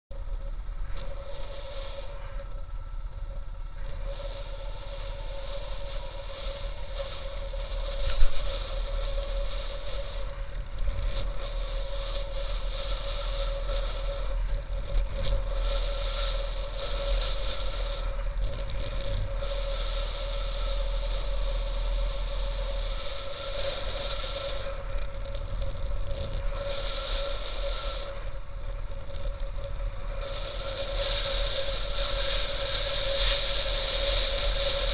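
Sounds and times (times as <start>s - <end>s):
motorcycle engine running: 0.1s - 34.9s
wind rumble on microphone: 0.1s - 34.9s.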